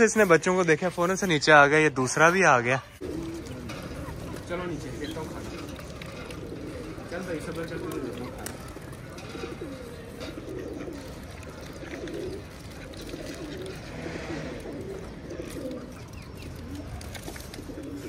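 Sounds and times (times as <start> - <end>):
pigeons cooing: 2.1 - 18.0.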